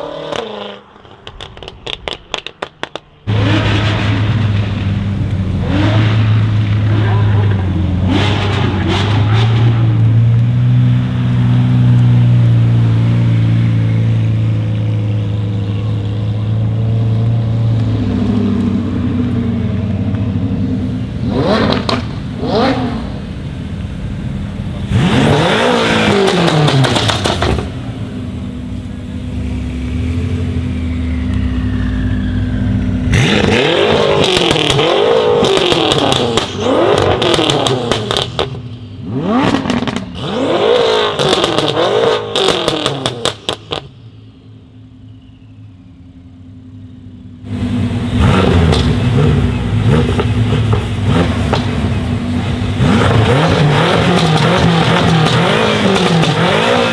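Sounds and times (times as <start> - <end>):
exhaust crackles and pops: 0.0 - 44.0, 47.4 - 56.9
car engine idling and revving: 0.0 - 56.9.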